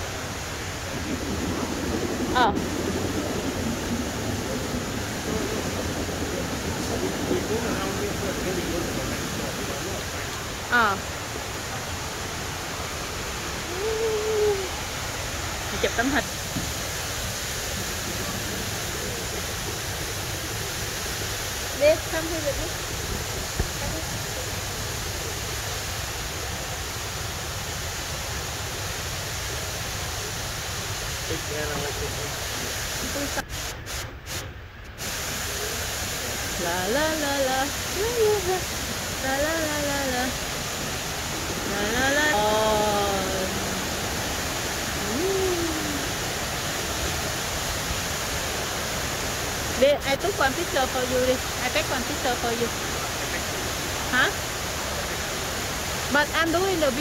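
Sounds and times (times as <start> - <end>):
indoor waterfall rushing: 0.0 - 57.0.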